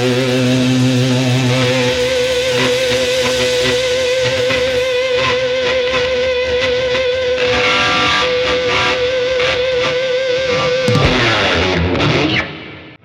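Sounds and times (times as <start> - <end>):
electric guitar playing: 0.0 - 12.9.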